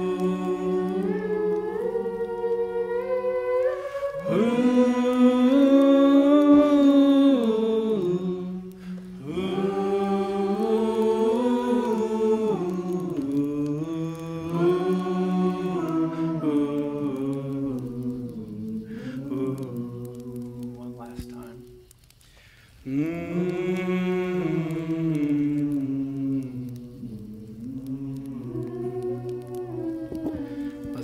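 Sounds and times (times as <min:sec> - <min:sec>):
person singing a hymn: 0:00.0 - 0:21.9, 0:22.8 - 0:31.0.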